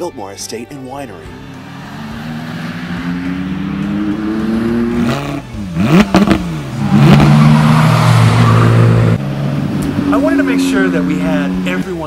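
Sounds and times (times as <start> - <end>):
car engine revving: 1.2 - 12.0.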